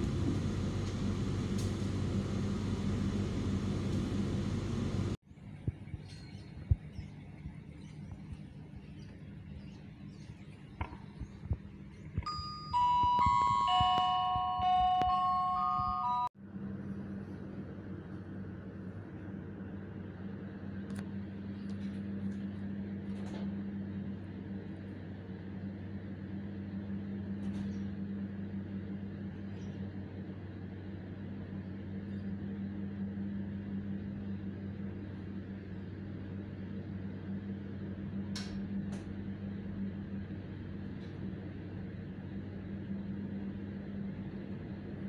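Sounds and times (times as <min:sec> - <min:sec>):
train coach low hum: 0:00.0 - 0:45.0.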